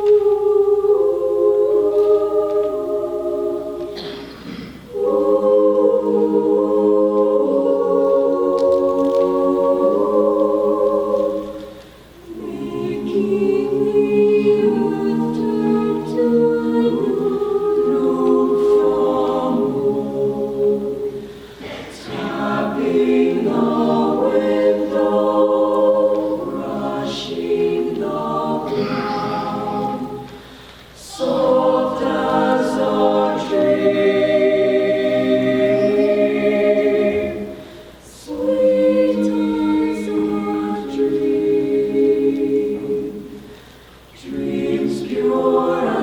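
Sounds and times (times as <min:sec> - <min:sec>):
choir singing a cappella: 0:00.0 - 0:46.0.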